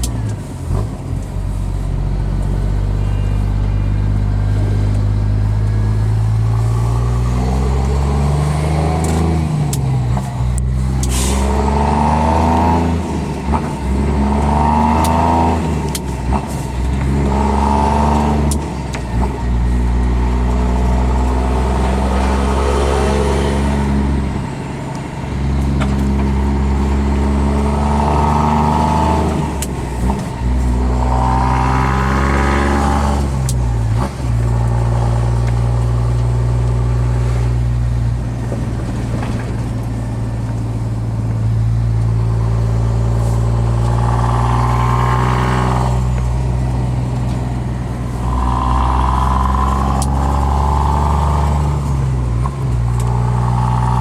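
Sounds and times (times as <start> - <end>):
truck engine pulling hard: 0.0 - 54.0.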